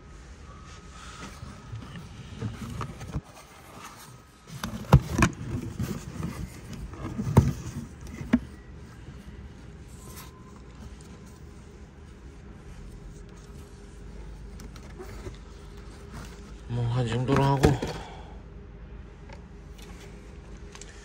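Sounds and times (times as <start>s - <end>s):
rustling and scraping of box: 0.8s - 17.9s.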